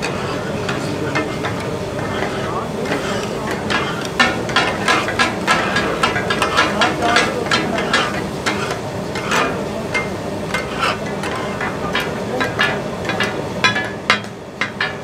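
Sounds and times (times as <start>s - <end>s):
griddle sizzling: 0.0s - 15.0s
metal spatulas clattering on griddle: 0.0s - 15.0s.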